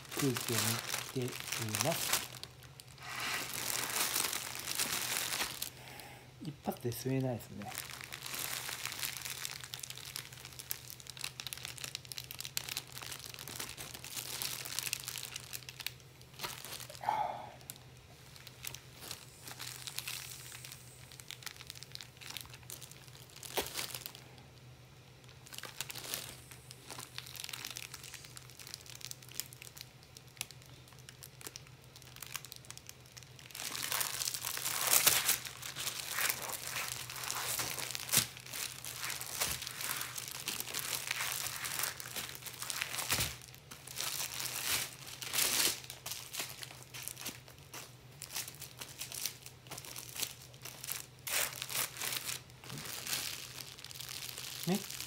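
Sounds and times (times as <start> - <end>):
plastic bag crinkling: 0.0 - 6.0, 6.7 - 24.4, 25.2 - 55.0.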